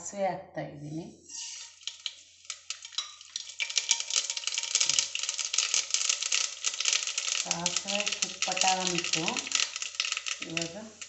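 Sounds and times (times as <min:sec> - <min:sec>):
seeds sizzling and popping in oil: 0:01.2 - 0:11.0.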